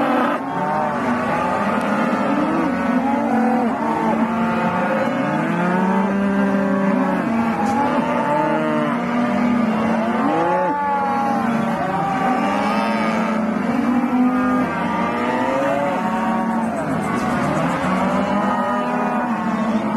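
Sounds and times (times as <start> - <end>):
cows mooing: 0.0 - 19.9.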